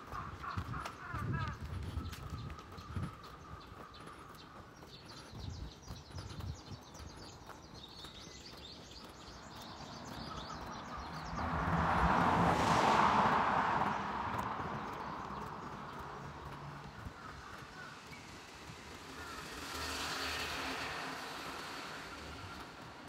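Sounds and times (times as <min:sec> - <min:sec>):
small birds chirping: 0:00.0 - 0:12.1, 0:13.8 - 0:23.0
vehicle passing on road: 0:00.0 - 0:23.0.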